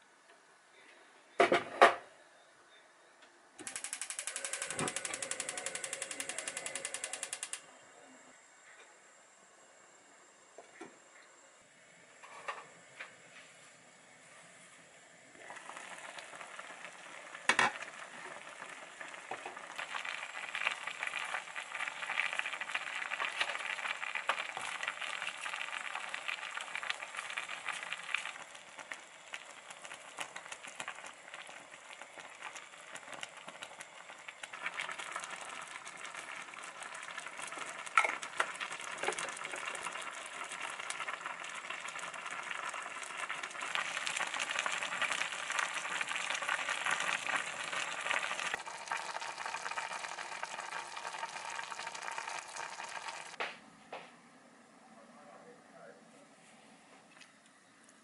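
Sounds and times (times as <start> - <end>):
soup simmering and bubbling: 3.6 - 8.0, 9.0 - 53.5.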